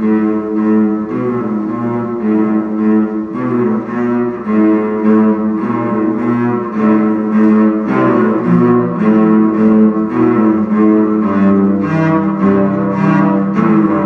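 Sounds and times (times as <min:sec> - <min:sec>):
bowed cello notes: 0:00.0 - 0:14.0.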